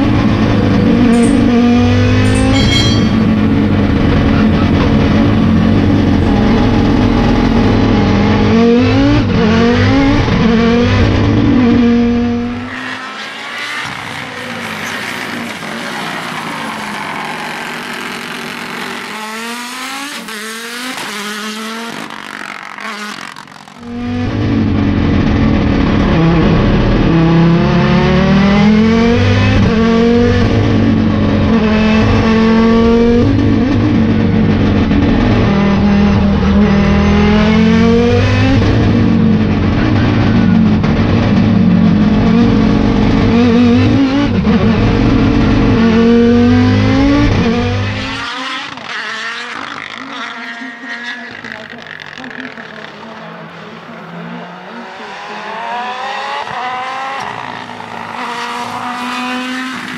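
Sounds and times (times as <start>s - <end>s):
engine revving through gear changes: 0.0s - 12.7s, 16.8s - 52.3s, 54.4s - 59.9s
car engine at full throttle: 0.0s - 59.9s.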